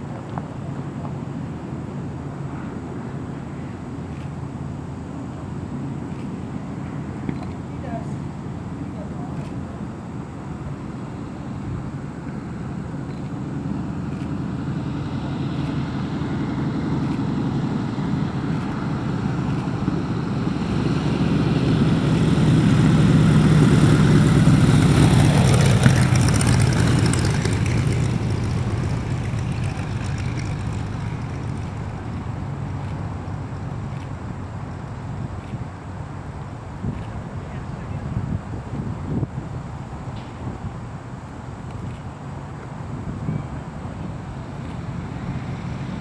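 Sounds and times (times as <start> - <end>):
propeller plane flying past: 0.0 - 40.0, 40.6 - 46.0.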